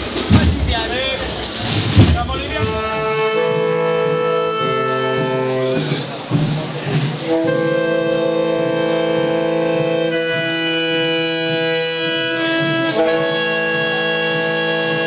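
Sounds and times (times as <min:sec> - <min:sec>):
wind band playing sustained chords: 0:00.0 - 0:15.0.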